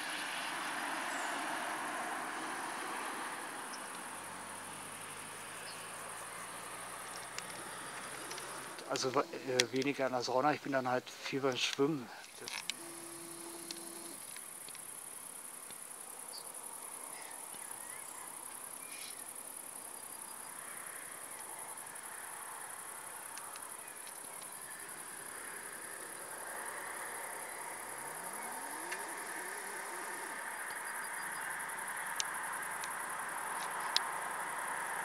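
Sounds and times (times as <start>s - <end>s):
crickets trilling: 0.0s - 35.0s
faint low hiss: 3.4s - 35.0s.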